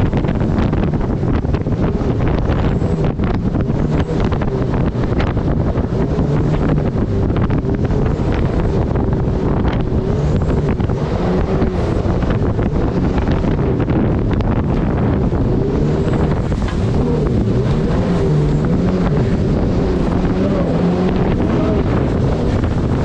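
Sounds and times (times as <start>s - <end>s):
boat engine running at high power: 0.0s - 23.0s
rushing water: 0.0s - 23.0s
wind buffeting microphone: 0.0s - 23.0s.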